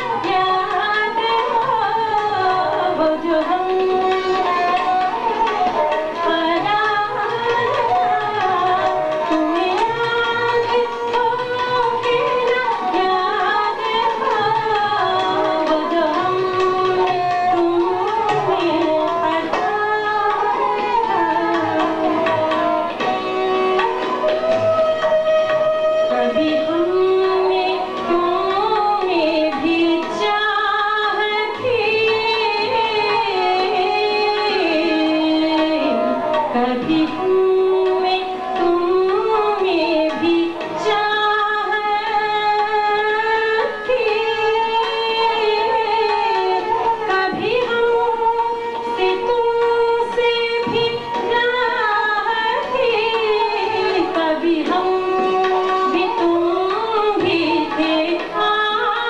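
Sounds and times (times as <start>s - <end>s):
woman singing: 0.0s - 24.2s, 25.7s - 59.0s
harmonium: 0.0s - 59.0s.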